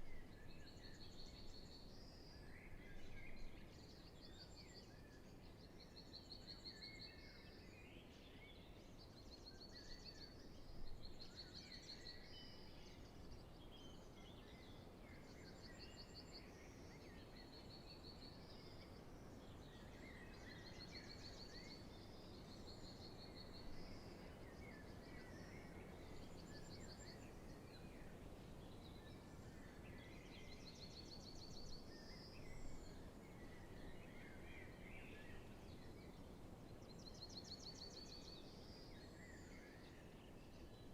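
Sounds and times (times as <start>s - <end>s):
low background noise: 0.0s - 40.9s
songbirds singing: 0.0s - 40.9s.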